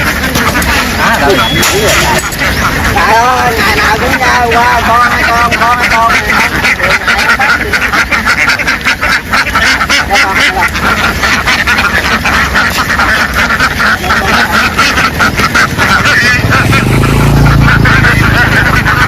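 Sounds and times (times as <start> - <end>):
flock of ducks quacking: 0.0 - 19.0.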